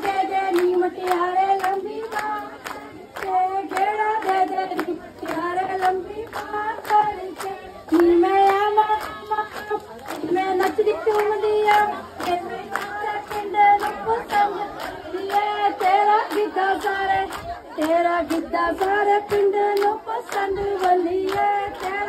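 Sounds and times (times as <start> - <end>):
hand clapping: 0.0 - 22.0
women singing folk song: 0.0 - 22.0.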